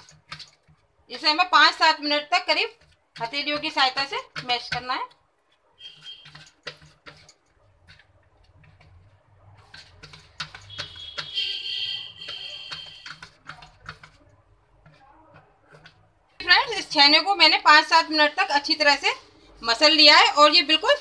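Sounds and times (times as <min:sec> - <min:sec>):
hand mashing on steel plate: 0:00.0 - 0:18.4.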